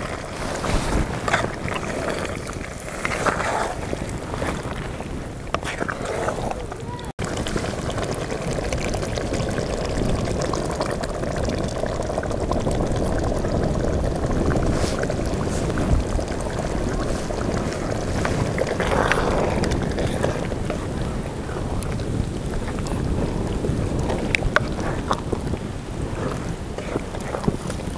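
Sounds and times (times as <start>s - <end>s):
gravy simmering and bubbling: 0.0s - 27.9s.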